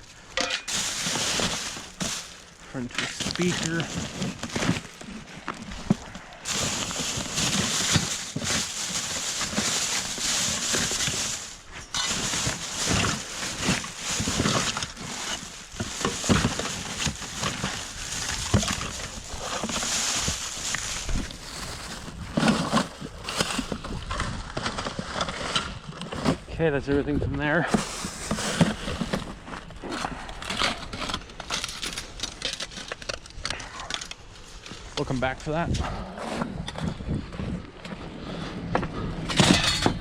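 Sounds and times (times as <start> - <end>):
scrap rustling and clattering: 0.1 - 26.6, 27.6 - 35.3, 36.2 - 40.0.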